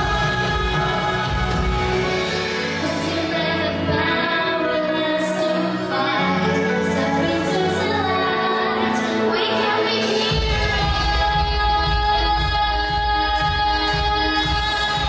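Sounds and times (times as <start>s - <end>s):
girl singing into a microphone: 2.8s - 15.0s.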